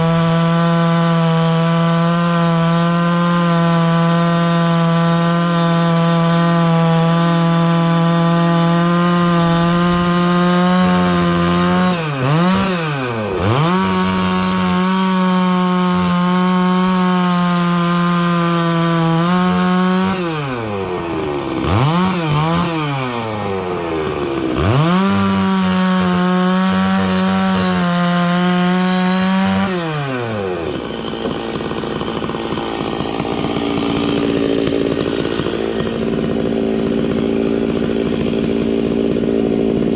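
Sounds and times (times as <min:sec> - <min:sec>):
chainsaw cutting through wood: 0:00.0 - 0:39.9.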